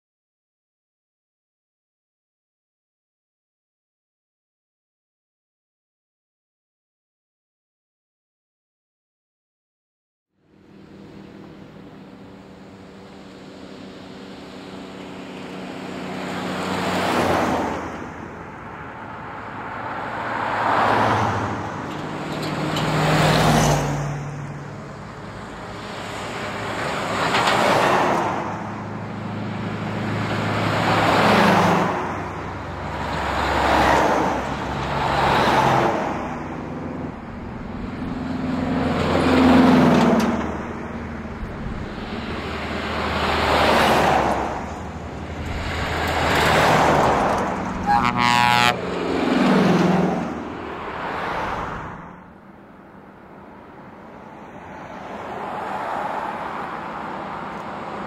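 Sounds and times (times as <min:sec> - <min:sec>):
trucks driving past: 0:10.4 - 0:58.0.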